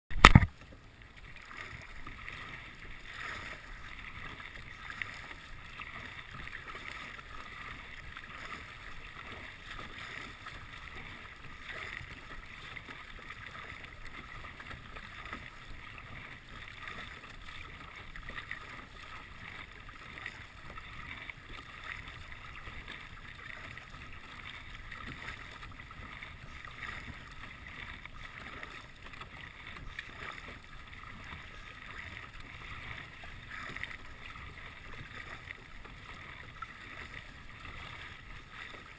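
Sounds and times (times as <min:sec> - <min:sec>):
paddle dipping in water: 0:00.1 - 0:38.9
water splashing and lapping: 0:00.1 - 0:38.9.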